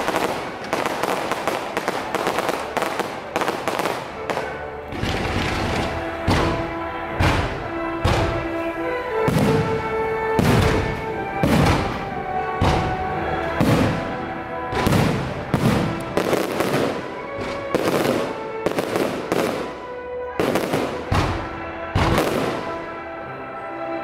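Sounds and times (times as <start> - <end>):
fireworks banging: 0.0 - 23.1
music with long held notes: 0.0 - 24.0.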